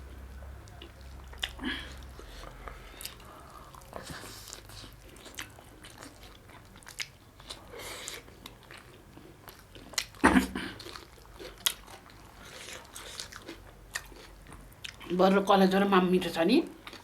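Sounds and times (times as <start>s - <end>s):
person chewing food: 0.0s - 15.1s, 16.8s - 17.0s.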